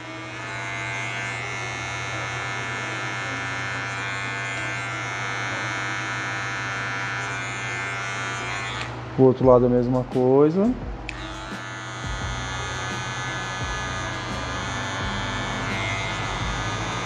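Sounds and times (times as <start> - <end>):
electric hair clipper buzzing: 0.0 - 9.2, 11.1 - 17.0.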